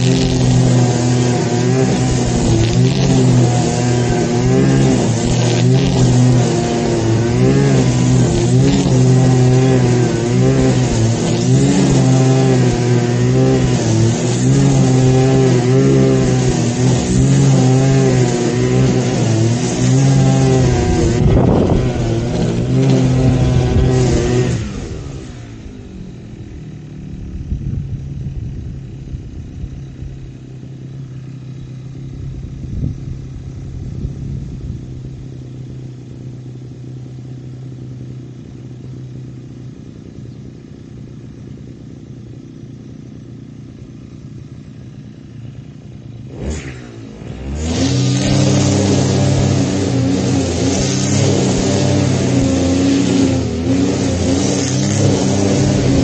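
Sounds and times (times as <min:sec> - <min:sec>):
lawn mower engine revving and idling: 0:00.0 - 0:56.0.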